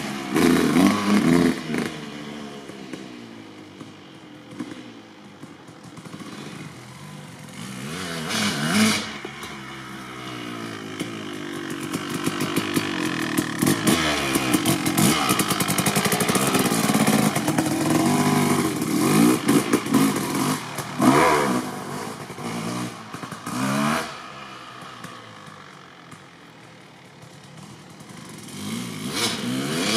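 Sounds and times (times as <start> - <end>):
motocross bike engine revving: 0.0 - 26.3, 27.6 - 29.9.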